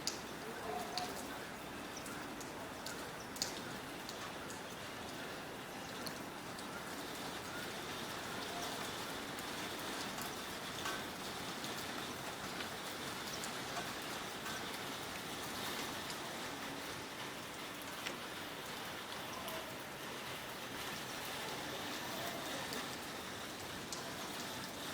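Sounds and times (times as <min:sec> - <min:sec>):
rain falling: 0:00.0 - 0:24.9
raindrops ticking close by: 0:00.0 - 0:24.9.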